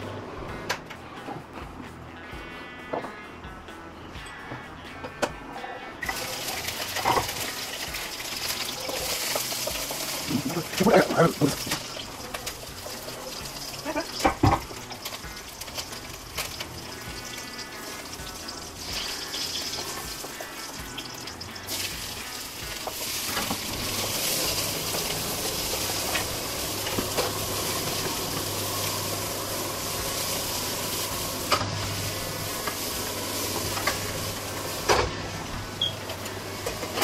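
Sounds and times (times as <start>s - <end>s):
onions sizzling in hot oil: 6.0s - 37.0s.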